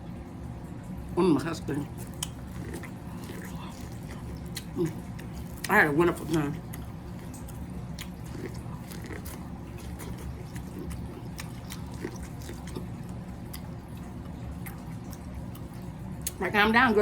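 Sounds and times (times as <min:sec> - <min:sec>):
steady low hum: 0:00.0 - 0:17.0
person chewing and biting food: 0:01.8 - 0:16.4.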